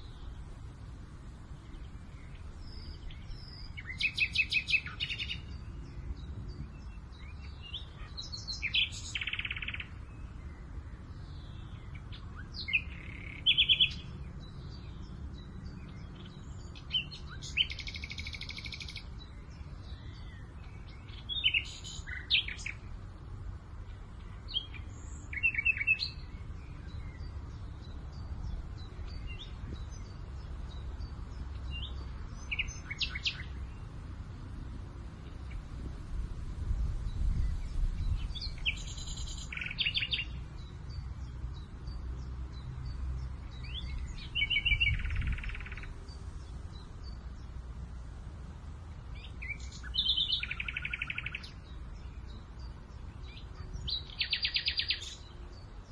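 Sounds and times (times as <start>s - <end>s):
low rumble of wind: 0.0s - 55.9s
wild birds chirping and trilling: 0.0s - 55.9s.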